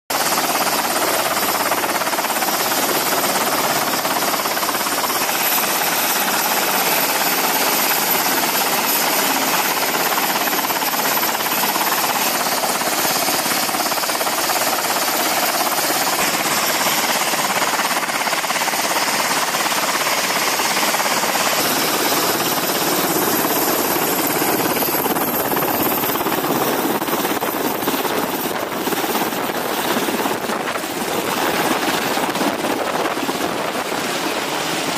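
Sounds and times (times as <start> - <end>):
helicopter rotor and engine noise: 0.1 - 34.9
high turbine whine: 0.2 - 34.9.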